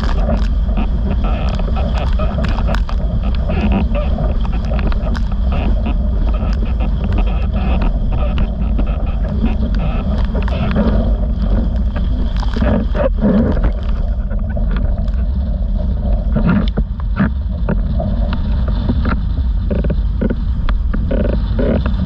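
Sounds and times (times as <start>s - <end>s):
board slapping water: 0.0s - 22.0s
wind rumble on microphone: 0.0s - 22.0s.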